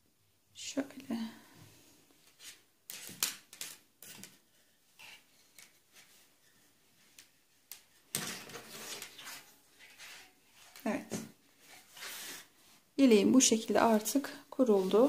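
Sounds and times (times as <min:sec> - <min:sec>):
fabric rustling: 0:01.8 - 0:15.0.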